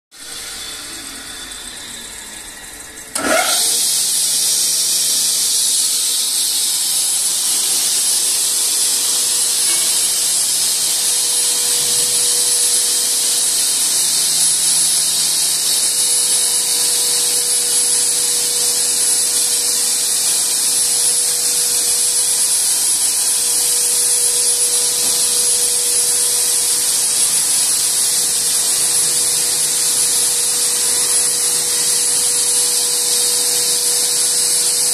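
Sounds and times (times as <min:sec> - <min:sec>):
motor starting with rising whine: 0:00.1 - 0:34.9
machine electric motors running: 0:00.2 - 0:34.9.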